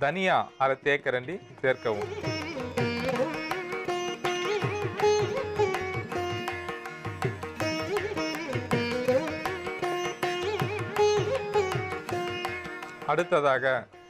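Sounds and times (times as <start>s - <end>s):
plucked string melody: 1.4s - 14.0s.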